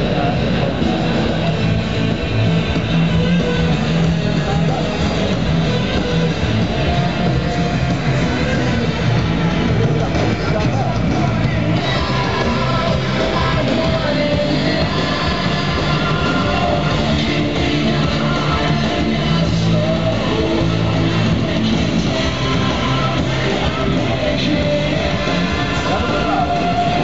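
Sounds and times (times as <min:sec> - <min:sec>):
loud rock music over pa: 0:00.0 - 0:27.0.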